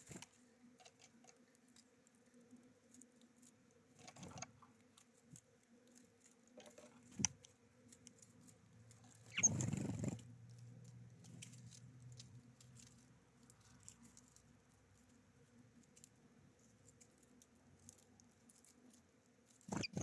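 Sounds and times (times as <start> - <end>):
birds tapping and pecking: 0.0 - 20.0
rustle: 0.0 - 20.0.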